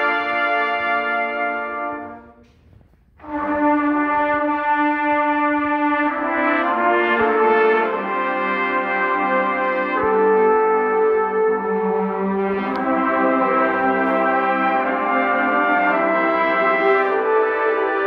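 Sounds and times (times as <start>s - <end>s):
trumpet choir playing chords: 0.0s - 2.6s, 3.2s - 18.0s.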